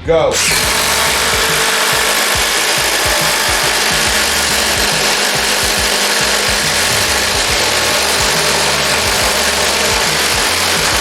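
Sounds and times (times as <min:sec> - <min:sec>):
impact drivers hammering: 0:00.3 - 0:11.0.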